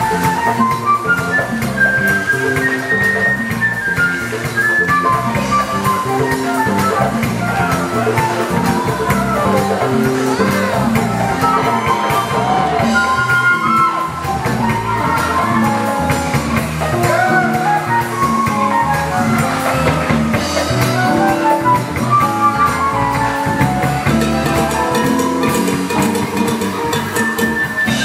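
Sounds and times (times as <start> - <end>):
drum kit beat: 0.0 - 28.0
live band playing upbeat music: 0.0 - 28.0.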